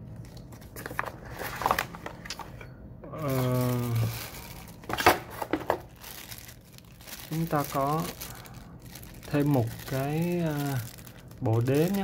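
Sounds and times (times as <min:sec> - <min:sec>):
packaging rustling: 0:00.2 - 0:02.4, 0:03.2 - 0:12.0.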